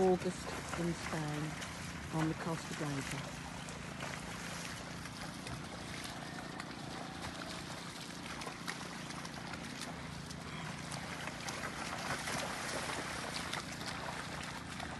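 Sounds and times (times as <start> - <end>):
water pumps humming: 0.0 - 14.9
water splashing: 0.0 - 14.9.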